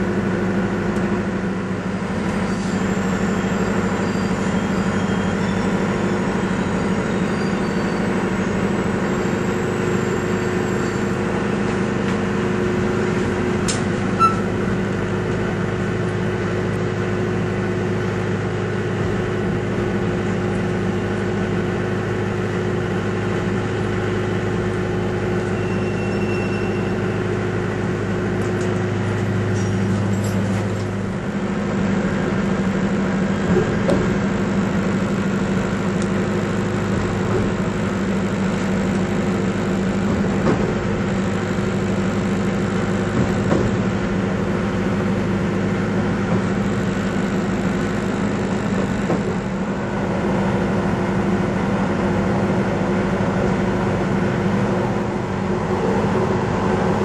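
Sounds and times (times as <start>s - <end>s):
train engine and running gear drone: 0.0s - 57.0s.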